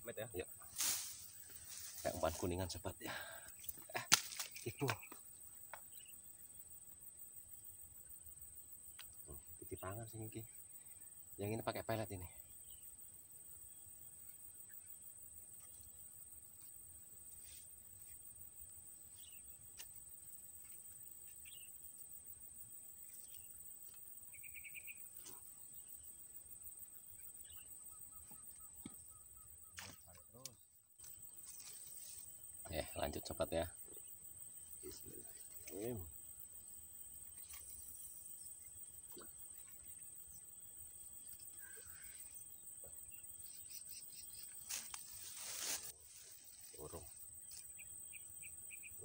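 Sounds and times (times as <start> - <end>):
faint bird chirps: 0.0 - 36.4, 37.0 - 49.0.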